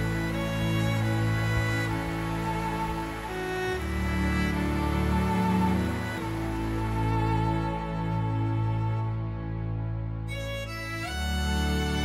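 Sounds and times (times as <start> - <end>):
slow music of held chords: 0.0 - 12.0.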